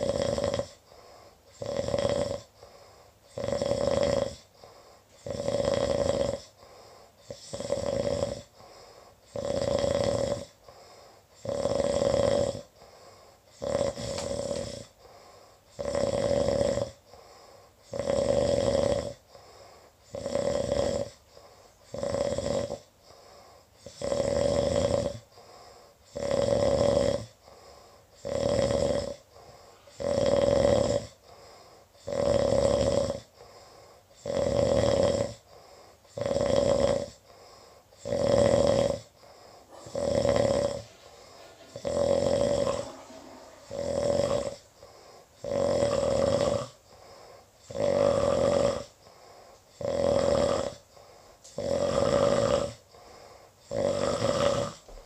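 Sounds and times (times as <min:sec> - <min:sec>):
person snoring: 0:00.0 - 0:55.0.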